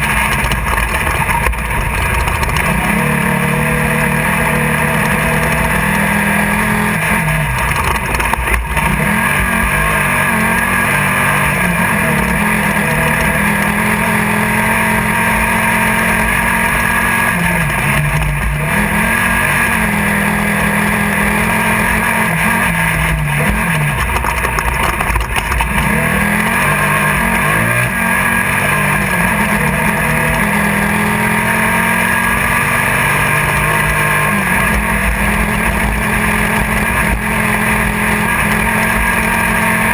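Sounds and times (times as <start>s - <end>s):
constant noisy rush: 0.0s - 39.9s
race car engine running hard: 0.0s - 39.9s.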